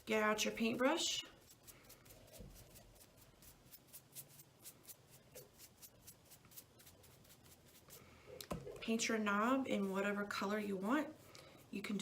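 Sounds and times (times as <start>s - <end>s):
paintbrush strokes on wood: 0.6s - 12.0s.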